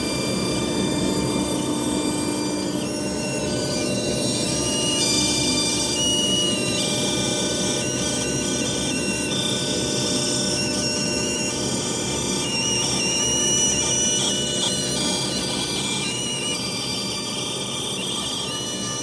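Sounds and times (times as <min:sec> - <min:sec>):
router spindle whining while cutting wood: 0:00.0 - 0:19.0.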